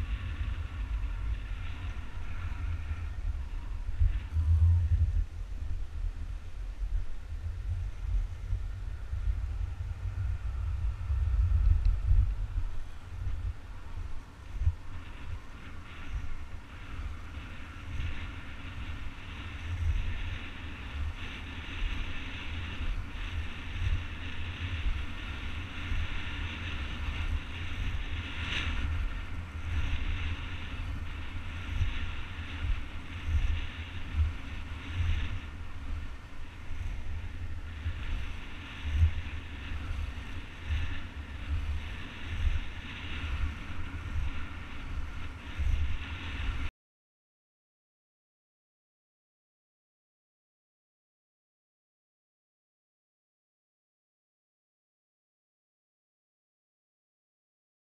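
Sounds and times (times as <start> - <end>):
skate wheels rolling on asphalt: 0.0 - 46.7
wind buffeting microphone: 0.0 - 46.7.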